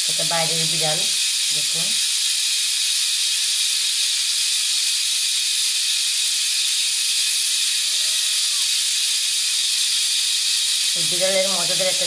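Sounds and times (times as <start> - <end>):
pressure cooker steam hissing: 0.0 - 12.0.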